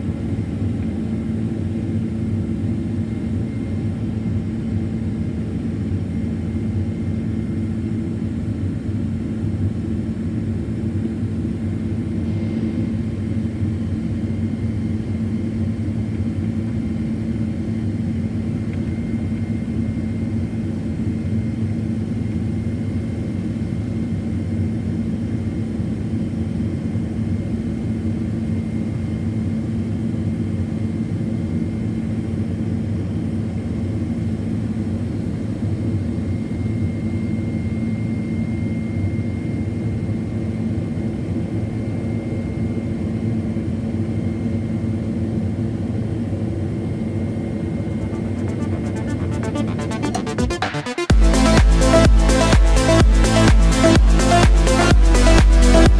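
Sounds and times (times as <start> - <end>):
jet engine drone in cabin: 0.0 - 55.9.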